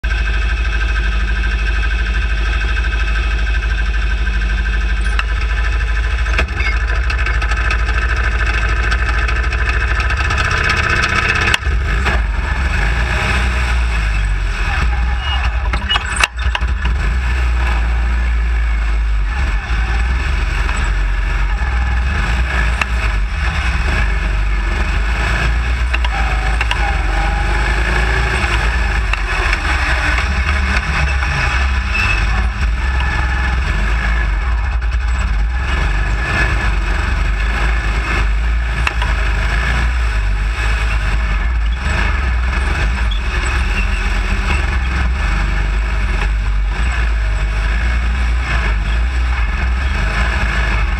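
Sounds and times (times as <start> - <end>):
engine running under load: 0.0 - 50.9.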